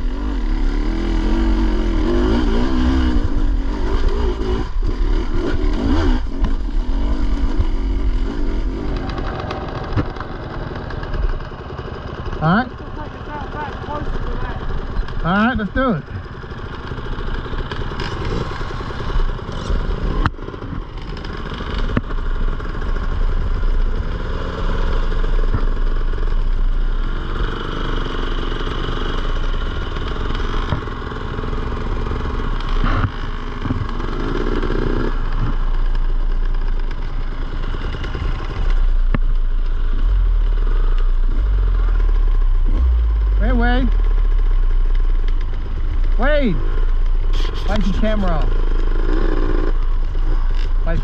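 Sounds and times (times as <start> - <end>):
dirt bike engine revving: 0.0 - 26.2, 26.9 - 51.0.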